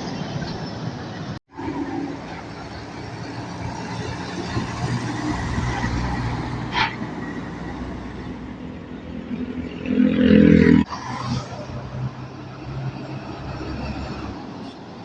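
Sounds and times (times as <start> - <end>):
road traffic: 0.0 - 15.0
truck diesel engine rumbling: 0.0 - 15.0.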